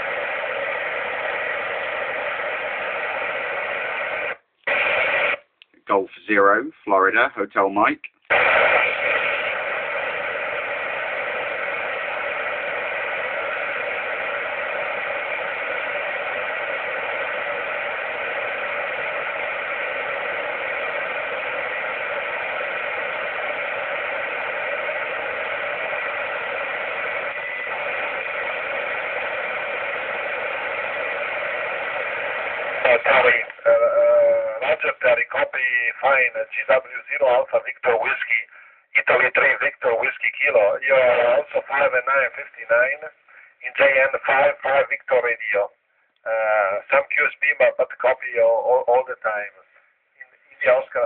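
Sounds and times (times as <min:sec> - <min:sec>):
radio receiver hiss: 0:00.0 - 0:05.5, 0:08.3 - 0:51.0.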